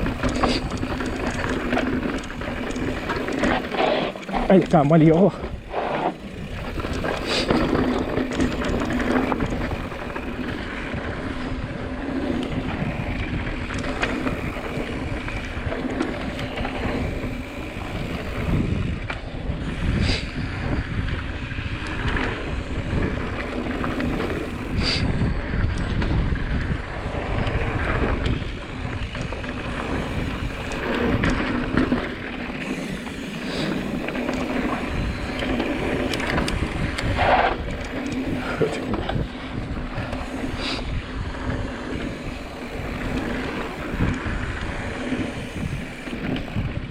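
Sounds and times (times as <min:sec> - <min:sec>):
bike tyres rumbling on dirt: 0:00.0 - 0:46.9
wind buffeting microphone: 0:00.0 - 0:46.9.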